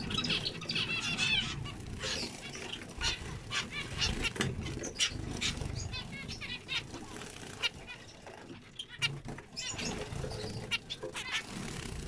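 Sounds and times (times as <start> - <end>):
finches chirping: 0.0 - 11.9.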